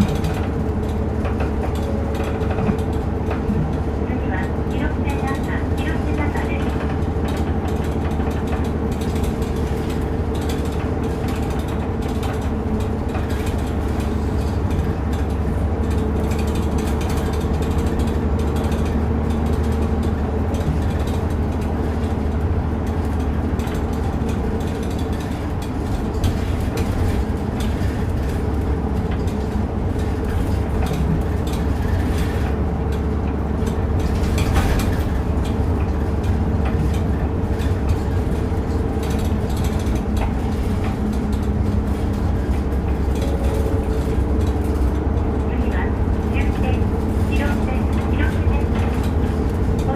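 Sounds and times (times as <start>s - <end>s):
bus body rattling and creaking: 0.0s - 49.9s
bus engine drone: 0.0s - 49.9s.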